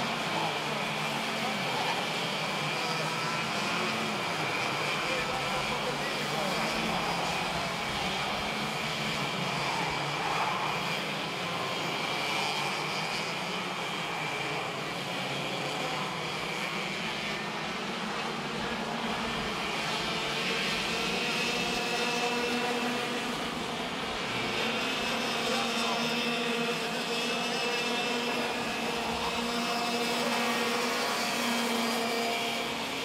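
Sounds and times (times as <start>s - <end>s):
kart engines buzzing: 0.0s - 33.0s.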